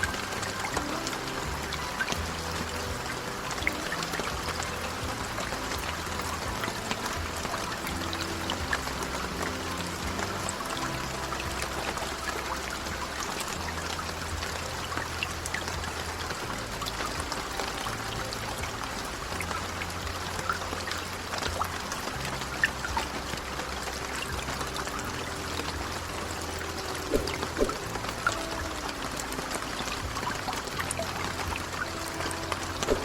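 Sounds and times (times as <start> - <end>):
low background music: 0.0 - 33.0
steady rain: 0.0 - 33.0
water dripping: 0.0 - 33.0.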